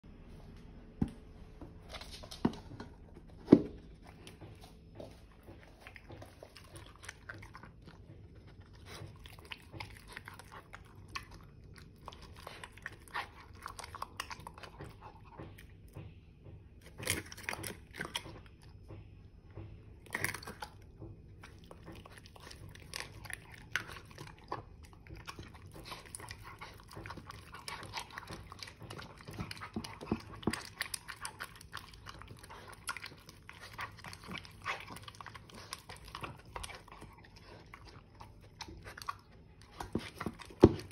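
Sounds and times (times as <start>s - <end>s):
dog chewing and crunching food: 1.0s - 16.1s, 16.7s - 40.9s.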